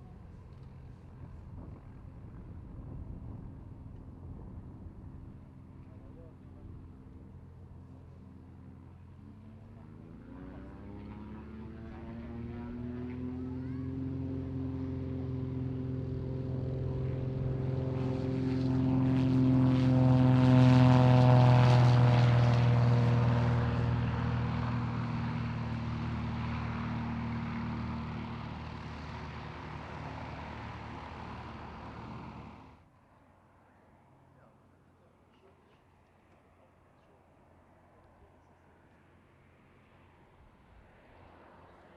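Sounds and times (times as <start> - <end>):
propeller aircraft passing by: 0.0 - 41.9.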